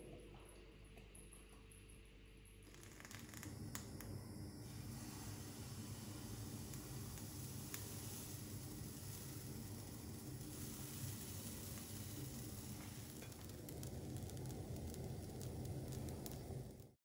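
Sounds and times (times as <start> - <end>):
steady low hum: 0.0 - 17.0
batter sizzling in frying pan: 2.7 - 17.0.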